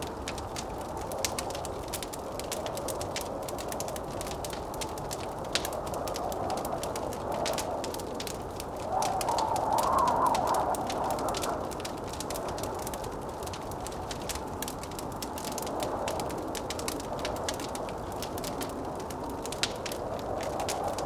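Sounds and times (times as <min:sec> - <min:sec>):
blizzard wind: 0:00.0 - 0:21.0
wood fire crackling and popping: 0:00.0 - 0:21.0.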